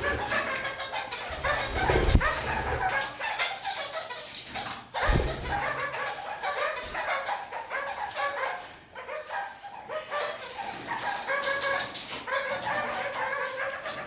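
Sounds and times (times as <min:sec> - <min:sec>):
parakeet chattering and calling: 0:00.0 - 0:14.0.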